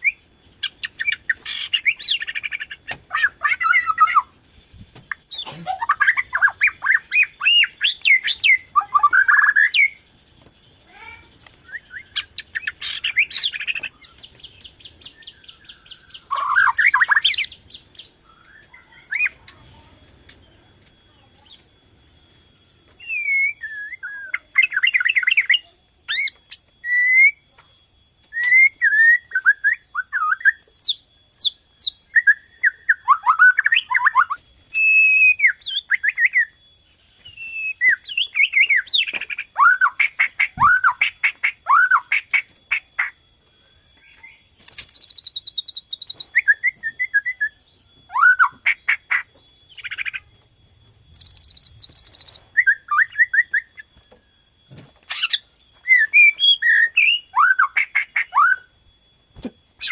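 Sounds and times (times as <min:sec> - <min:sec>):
songbird singing: 0:00.0 - 0:04.4, 0:05.0 - 0:22.3, 0:22.9 - 0:27.5, 0:28.3 - 0:59.0
rapid buzzy bird trill: 0:00.0 - 0:59.9.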